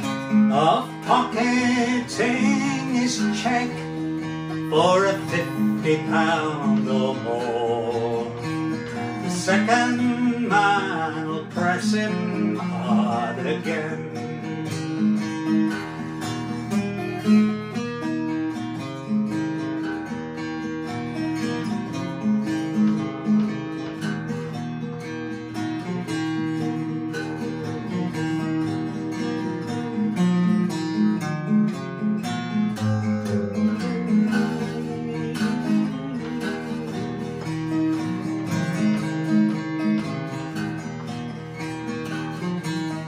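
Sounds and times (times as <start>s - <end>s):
acoustic guitar strumming: 0.0s - 43.0s.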